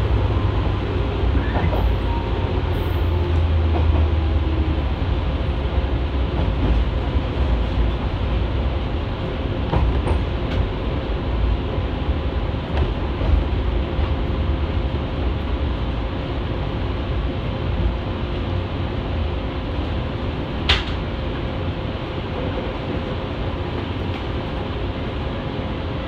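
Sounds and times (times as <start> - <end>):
train rumble from inside: 0.0 - 26.0.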